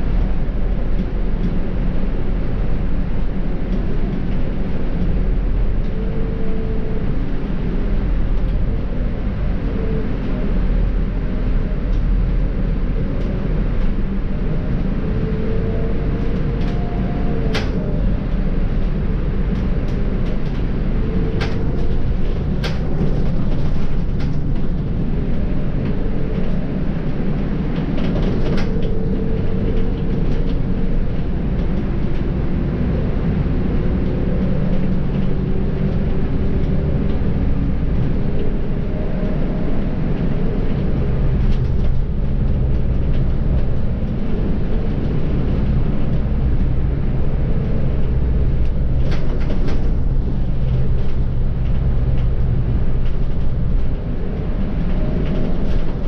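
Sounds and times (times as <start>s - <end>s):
bus diesel engine: 0.0s - 56.0s
drivetrain whine: 0.0s - 56.0s
road rumble: 0.0s - 56.0s.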